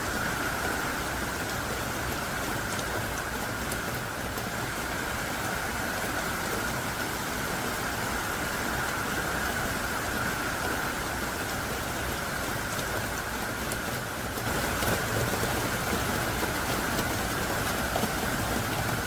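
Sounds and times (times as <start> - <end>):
heavy rain downpour: 0.0 - 19.0.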